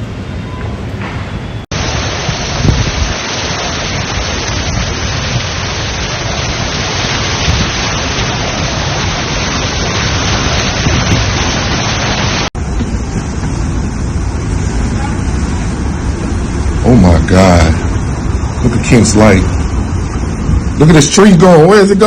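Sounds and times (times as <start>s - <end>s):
heavy storm rain: 1.7s - 22.0s.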